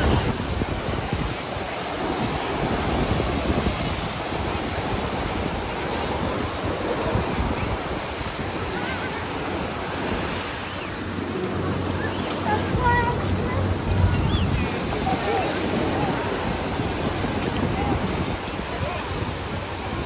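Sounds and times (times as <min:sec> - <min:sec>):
surf breaking on shore: 0:00.0 - 0:20.0
wind rumbling on microphone: 0:00.0 - 0:20.0.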